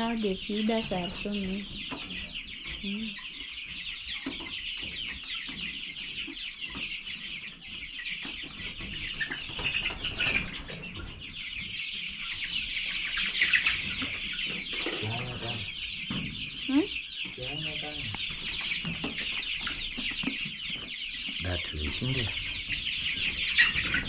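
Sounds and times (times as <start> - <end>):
chicks peeping and chirping: 0.0 - 24.0.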